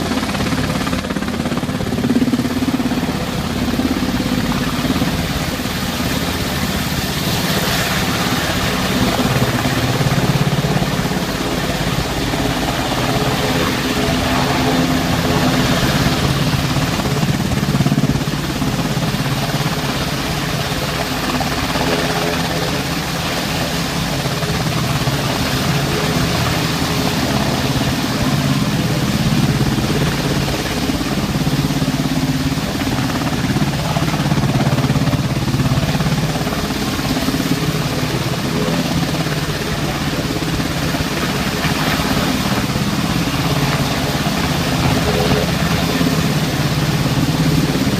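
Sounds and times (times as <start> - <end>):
helicopter turbine and rotor: 0.0 - 47.9.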